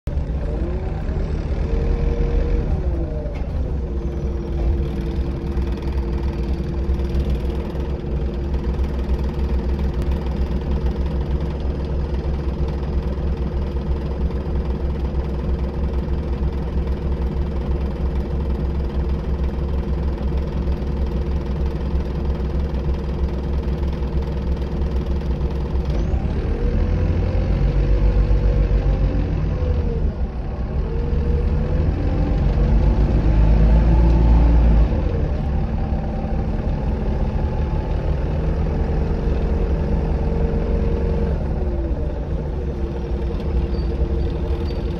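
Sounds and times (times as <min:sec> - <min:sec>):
bus diesel engine humming: 0:00.1 - 0:44.9.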